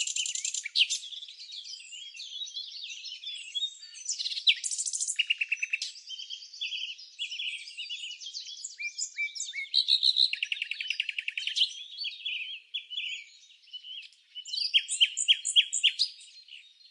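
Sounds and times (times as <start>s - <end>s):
songbirds singing and calling: 0.0s - 16.9s.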